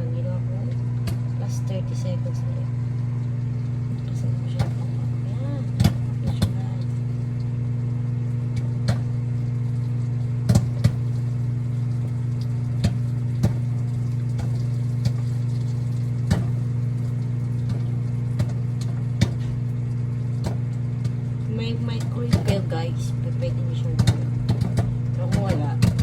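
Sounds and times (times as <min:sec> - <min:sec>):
microwave oven humming: 0:00.0 - 0:26.0
popcorn popping: 0:00.4 - 0:02.4, 0:03.4 - 0:26.0.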